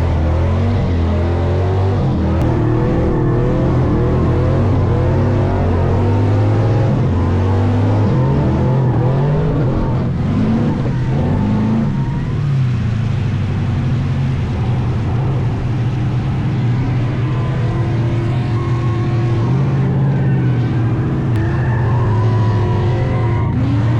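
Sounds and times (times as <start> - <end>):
truck engine revving hard: 0.0 - 23.9.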